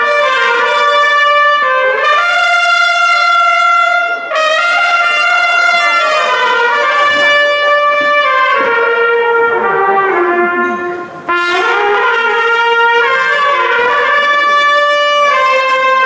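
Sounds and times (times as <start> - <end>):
trumpets playing held chords: 0.0 - 16.0.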